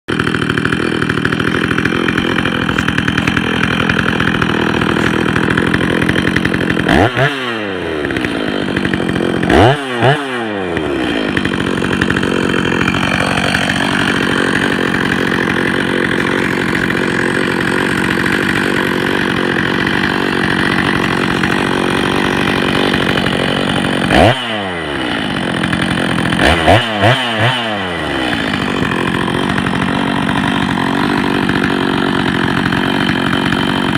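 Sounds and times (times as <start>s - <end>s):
chainsaw engine revving: 0.1s - 33.9s.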